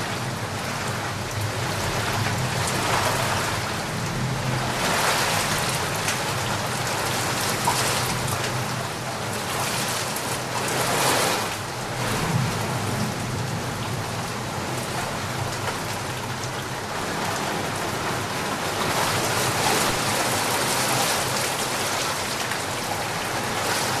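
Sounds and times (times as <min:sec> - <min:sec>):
heavy rain pattering: 0:00.0 - 0:24.0.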